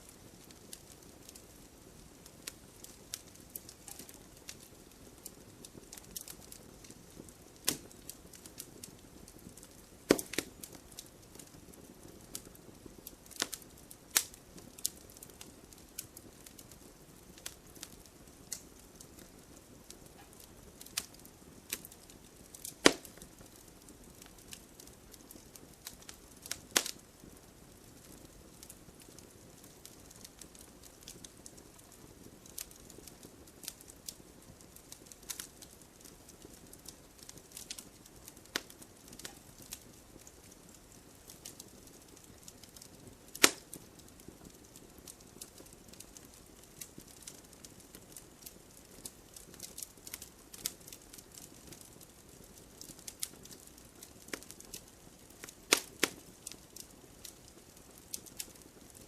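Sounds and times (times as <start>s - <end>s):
faint steady hiss: 0.0s - 59.0s
loud fire snaps: 0.0s - 59.0s
wood fire crackling: 0.0s - 59.0s.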